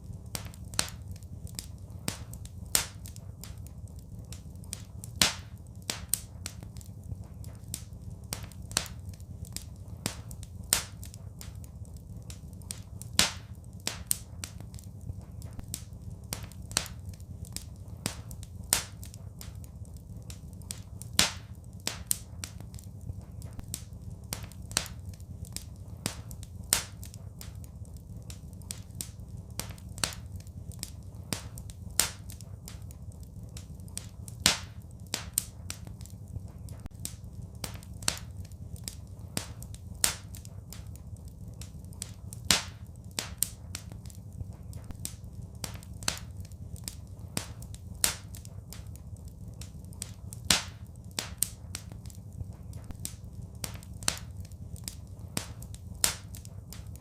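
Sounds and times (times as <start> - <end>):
fire pops and snaps: 0.0 - 57.0
low rumble of burning fire: 0.0 - 57.0.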